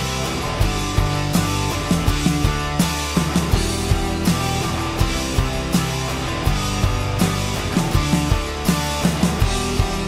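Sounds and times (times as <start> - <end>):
steady drum beat: 0.0 - 10.0
upbeat rock music with guitar: 0.0 - 10.0.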